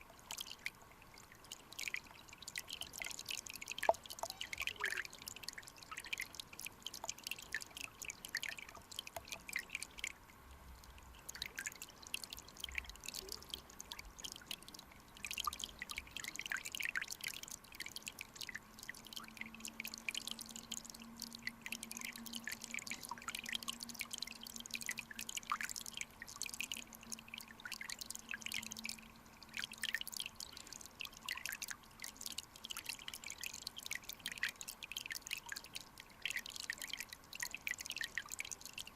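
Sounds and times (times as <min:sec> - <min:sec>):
stream water bubbling: 0:00.0 - 0:38.9
water drips and plinks: 0:00.0 - 0:38.9.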